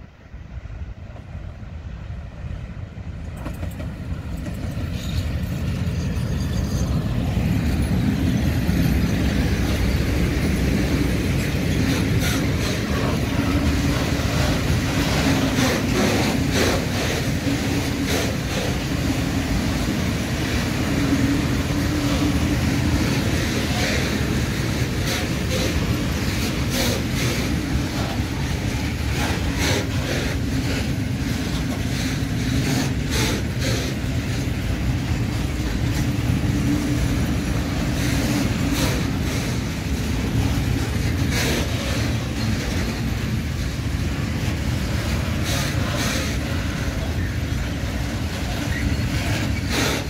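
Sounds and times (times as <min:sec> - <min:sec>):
train rumbling past: 0:00.0 - 0:50.0
wheels clicking over rail joints: 0:03.2 - 0:50.0.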